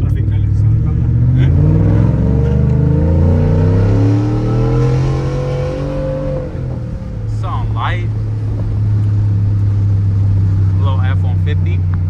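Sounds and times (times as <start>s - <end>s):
pickup engine accelerating: 0.0s - 12.0s.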